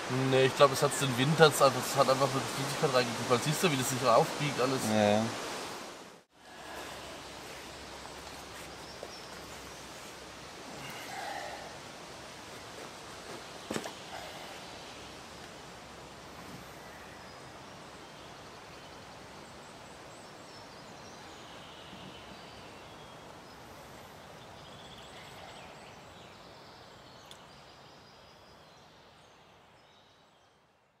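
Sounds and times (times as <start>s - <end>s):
woodland background hush: 0.0s - 31.0s.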